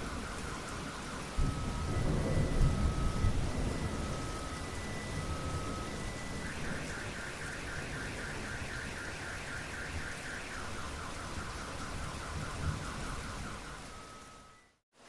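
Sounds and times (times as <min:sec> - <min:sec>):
steady rain: 0:00.0 - 0:15.0
car alarm chirping: 0:00.1 - 0:14.8.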